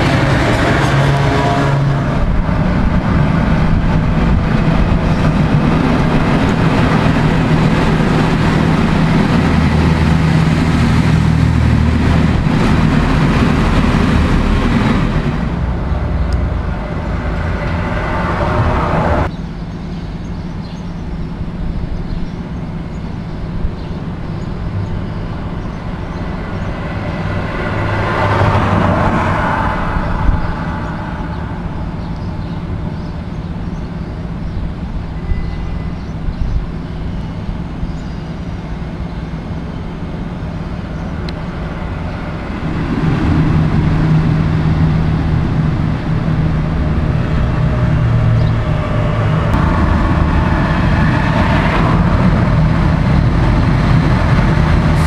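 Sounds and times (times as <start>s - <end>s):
locomotive engine humming: 0.0s - 55.0s
rumble and hiss of trains: 0.0s - 55.0s.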